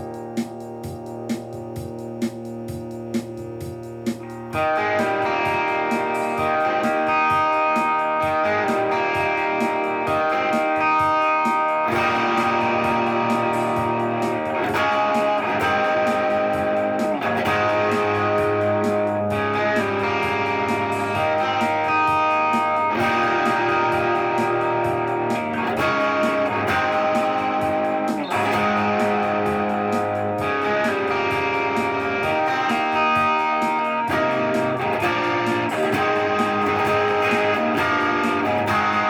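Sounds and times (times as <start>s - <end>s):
guitar strumming ringing chords: 0.0s - 39.0s.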